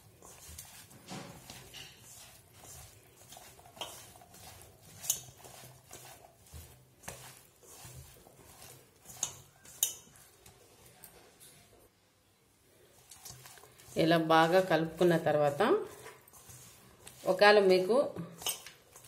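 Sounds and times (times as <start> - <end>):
damp florets rustling and squishing: 0.0 - 11.4, 12.7 - 19.0.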